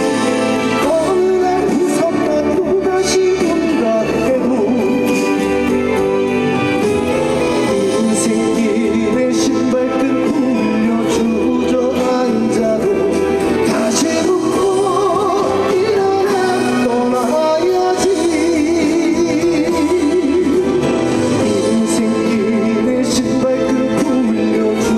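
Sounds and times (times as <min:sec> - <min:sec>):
band music with vibrato melody: 0:00.0 - 0:24.9.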